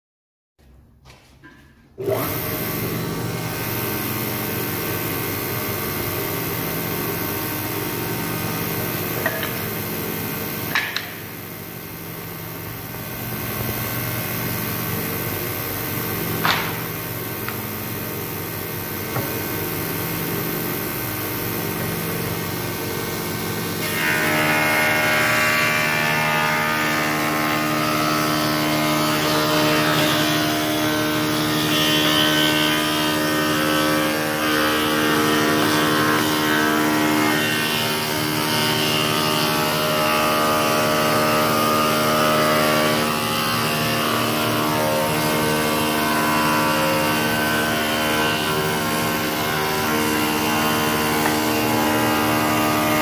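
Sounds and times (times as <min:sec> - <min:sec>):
cutter cutting wood: 0:02.0 - 0:53.0
spindle moulder motor humming: 0:02.0 - 0:53.0.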